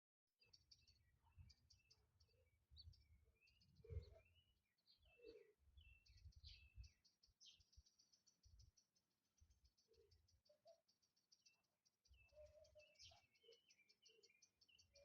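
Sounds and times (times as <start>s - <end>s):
bird chirps and twittering: 0.4s - 15.0s.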